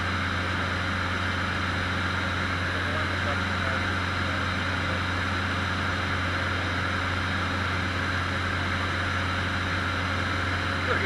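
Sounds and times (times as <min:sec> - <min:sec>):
airplane engine drone in cabin: 0:00.0 - 0:11.0.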